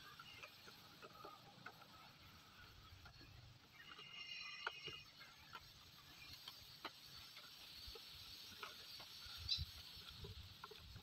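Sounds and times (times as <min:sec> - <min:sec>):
faint clicks and ticks: 0:00.0 - 0:11.0.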